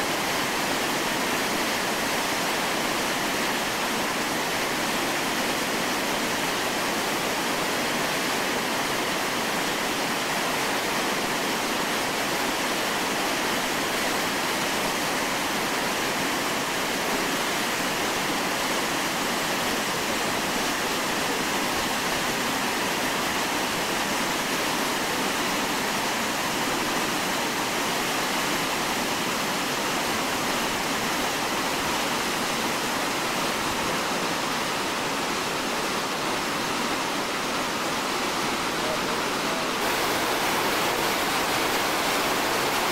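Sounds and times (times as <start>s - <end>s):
river rapids rushing over boulders: 0.0s - 42.9s.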